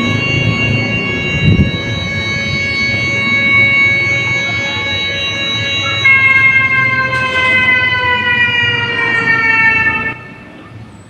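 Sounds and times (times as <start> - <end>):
electronic siren alert tone: 0.0 - 10.7.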